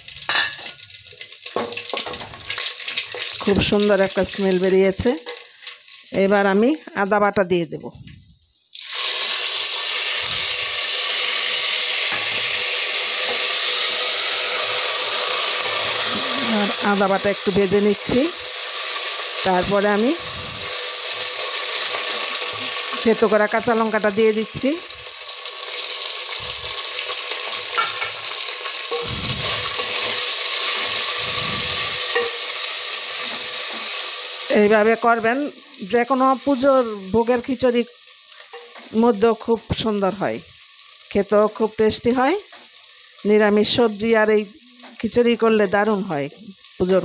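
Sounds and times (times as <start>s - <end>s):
paste sizzling in hot oil: 0.0s - 6.7s, 8.7s - 47.0s.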